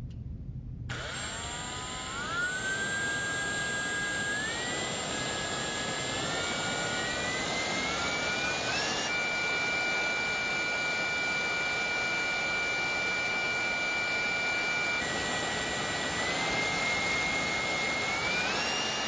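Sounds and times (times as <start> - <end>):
electric drill whining: 0.9 - 19.0.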